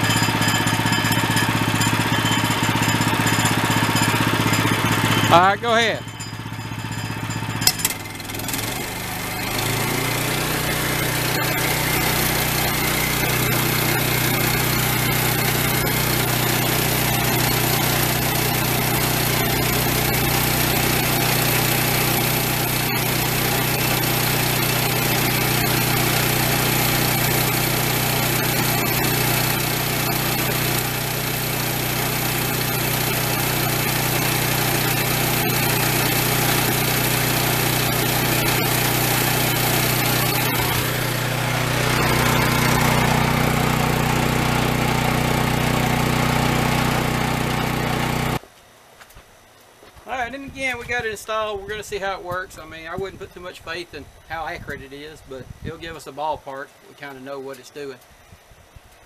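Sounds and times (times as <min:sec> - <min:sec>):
sawmill gasoline engine running: 0:00.0 - 0:48.4.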